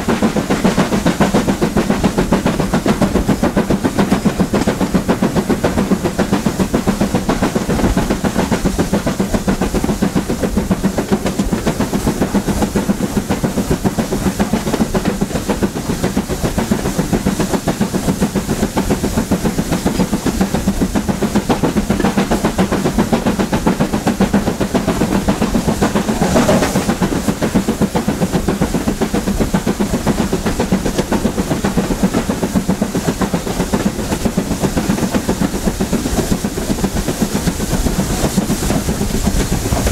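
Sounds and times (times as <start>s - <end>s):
steam hiss: 0.0s - 39.9s
train rumble and clatter: 0.0s - 39.9s.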